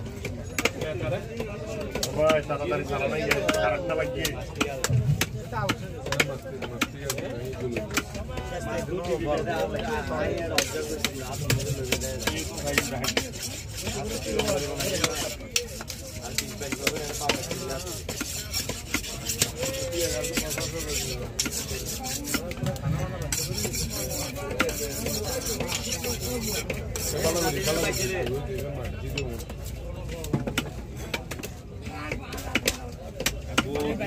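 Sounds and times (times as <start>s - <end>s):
knife scraping and cutting fish: 0.1s - 8.2s, 8.8s - 29.9s.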